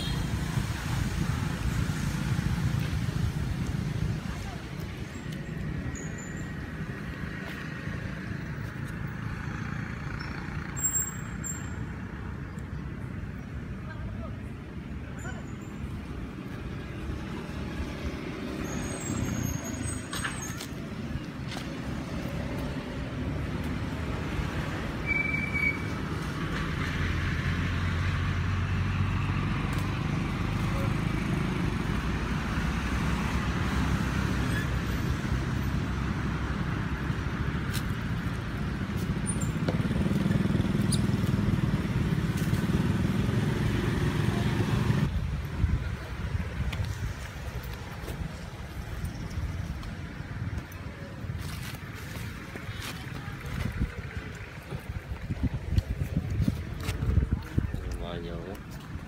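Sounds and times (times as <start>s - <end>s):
traffic engine rumble: 0.0s - 59.0s.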